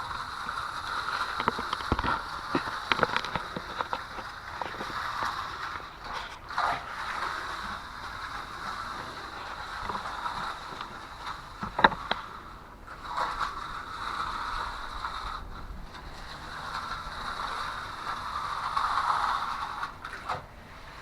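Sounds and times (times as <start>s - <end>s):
trowel scraping concrete: 0.0s - 21.0s.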